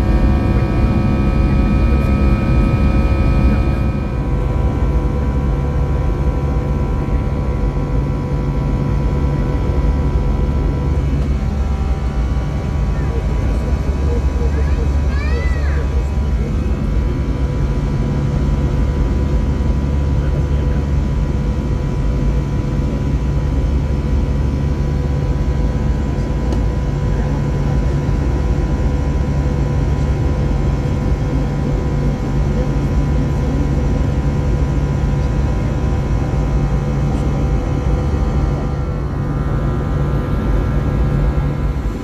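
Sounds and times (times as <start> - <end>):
humming engine tones: 0.0 - 42.0
jet engines rumbling: 0.0 - 42.0.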